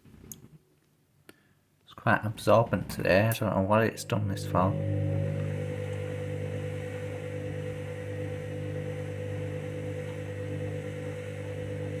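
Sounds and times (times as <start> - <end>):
washing machine motor hum: 2.4 - 12.0.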